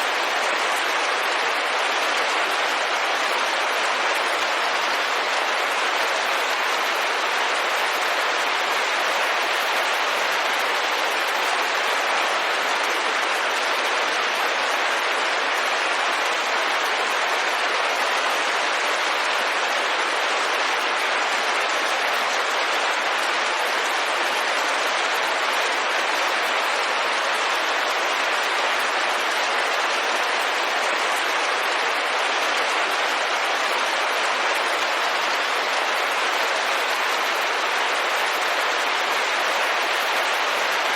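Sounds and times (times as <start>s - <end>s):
rain on a window pane: 0.0s - 40.9s.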